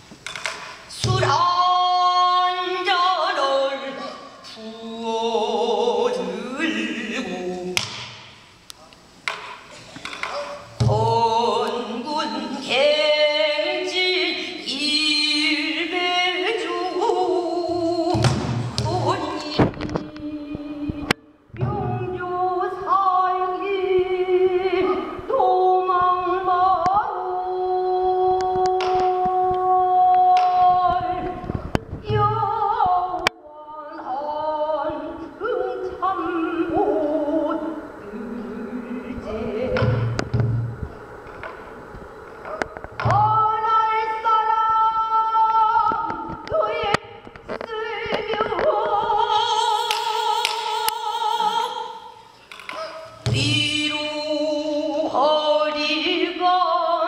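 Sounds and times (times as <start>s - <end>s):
woman singing long held notes: 0.9s - 8.0s, 10.2s - 40.4s, 43.0s - 52.3s, 53.1s - 57.0s.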